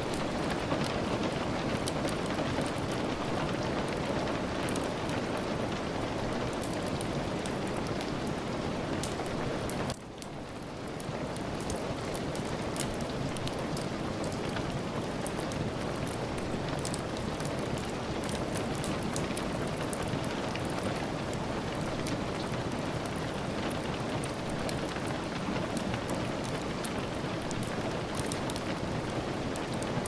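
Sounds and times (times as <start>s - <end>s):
fireplace fire crackling: 0.0s - 30.0s
rain on a surface: 0.0s - 30.0s.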